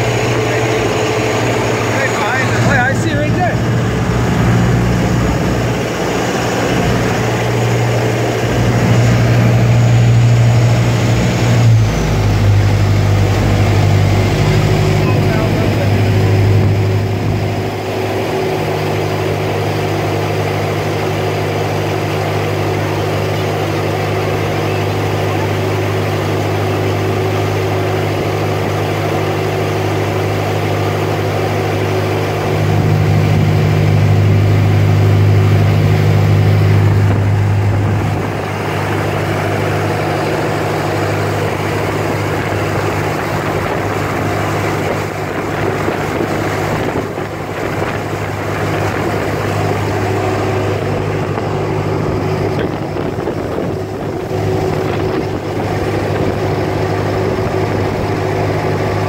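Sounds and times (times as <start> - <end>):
boat engine humming: 0.0 - 59.0
water rushing: 0.0 - 59.0.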